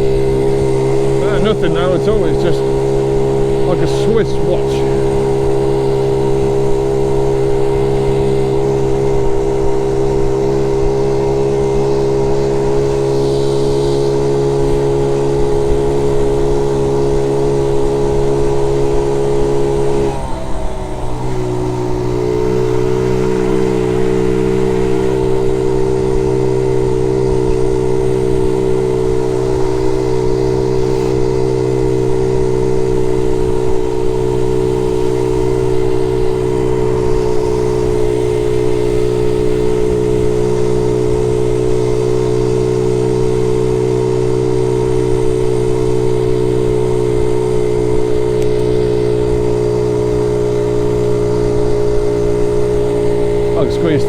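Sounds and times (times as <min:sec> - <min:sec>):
small motorbike engine running: 0:00.0 - 0:54.0.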